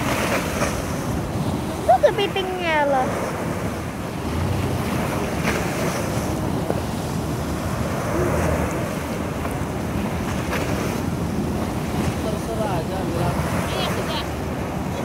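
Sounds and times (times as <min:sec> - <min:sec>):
sea waves washing on sand: 0:00.0 - 0:15.0
wind buffeting microphone: 0:00.0 - 0:15.0.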